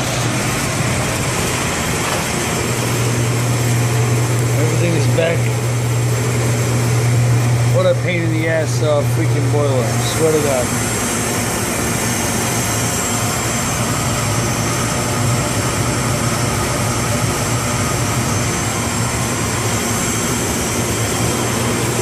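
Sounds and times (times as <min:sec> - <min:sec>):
boiler equipment hum: 0:00.0 - 0:22.0.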